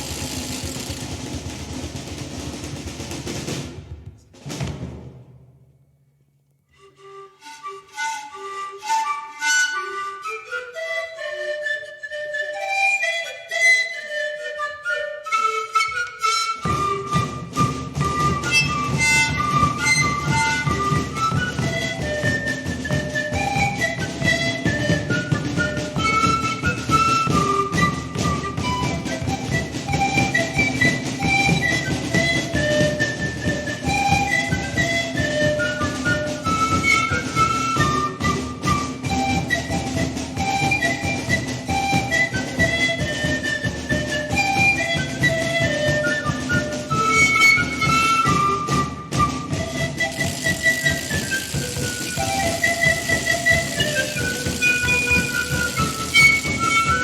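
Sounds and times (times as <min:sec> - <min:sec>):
panpipe ensemble melody: 0:00.0 - 0:03.8, 0:06.7 - 0:57.0.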